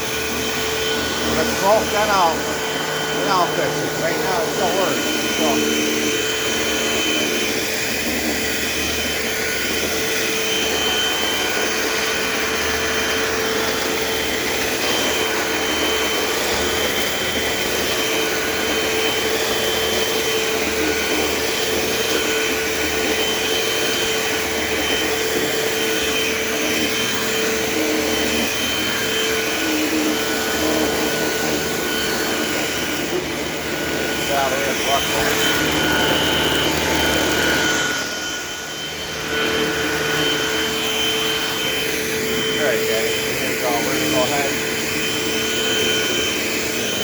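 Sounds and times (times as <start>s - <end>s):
upright vacuum cleaner running: 0.0s - 47.0s.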